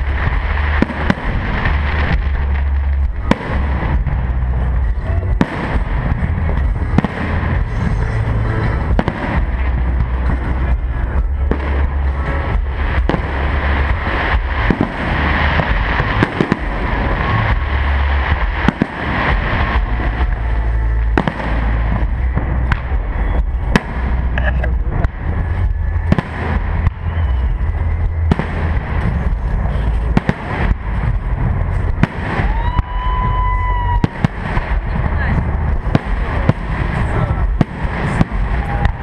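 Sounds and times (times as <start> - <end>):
continuous low rumble: 0.0 - 39.0
fireworks bangs and crackling pops: 0.0 - 39.0.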